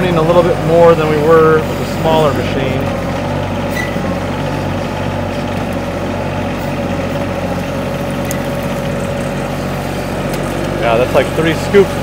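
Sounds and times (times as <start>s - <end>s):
excavator diesel engine running: 0.0s - 12.0s
steady whine: 0.0s - 12.0s.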